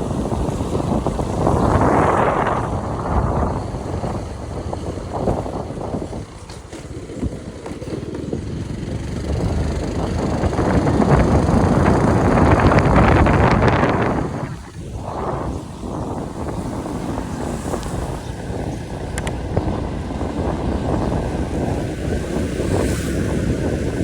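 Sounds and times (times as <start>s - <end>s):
road traffic rushing: 0.0s - 24.0s.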